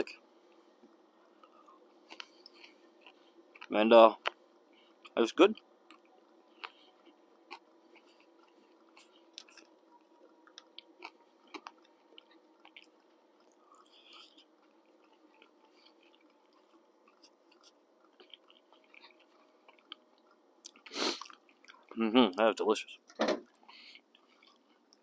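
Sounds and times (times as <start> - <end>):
faint steady hum: 0.0 - 25.0
person chewing food: 0.5 - 22.0, 23.4 - 25.0.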